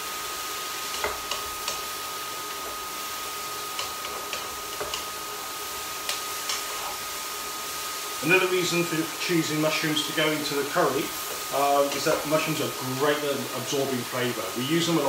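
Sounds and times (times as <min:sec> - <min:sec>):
frying sizzle: 0:00.0 - 0:15.0.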